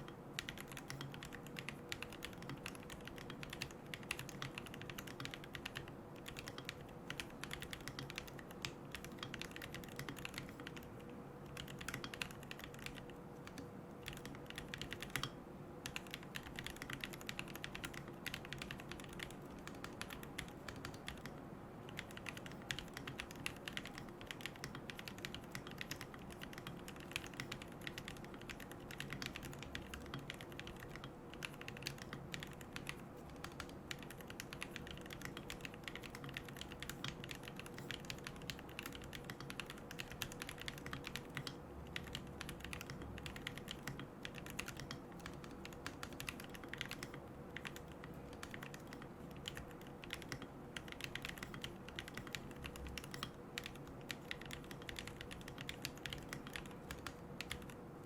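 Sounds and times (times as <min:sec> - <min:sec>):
mechanical keyboard typing: 0:00.0 - 0:57.8.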